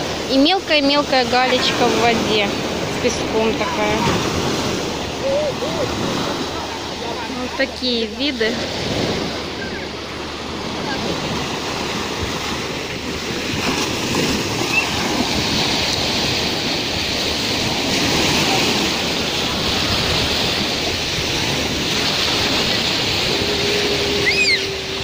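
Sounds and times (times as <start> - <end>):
small waves washing up shore: 0.0 - 25.0.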